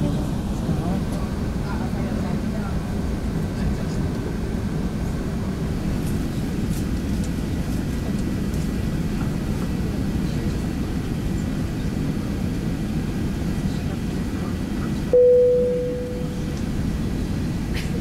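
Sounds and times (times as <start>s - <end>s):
aircraft cabin rumble: 0.0s - 18.0s
jet engines running: 0.0s - 18.0s.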